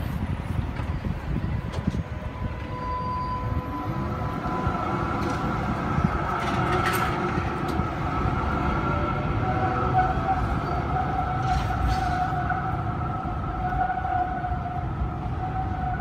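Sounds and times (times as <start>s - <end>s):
tram motors whining: 0.0s - 16.0s
wheels rumbling on rails: 0.0s - 16.0s.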